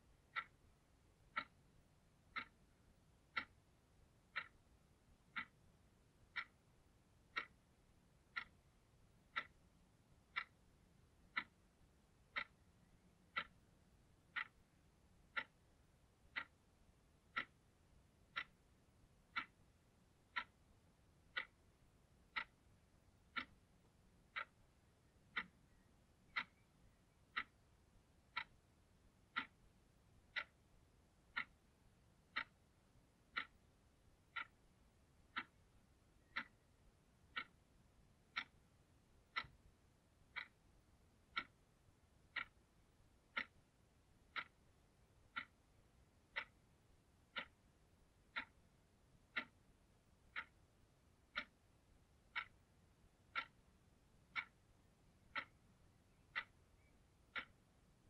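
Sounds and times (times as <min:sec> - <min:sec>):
alarm clock ticking: 0:00.1 - 0:58.0.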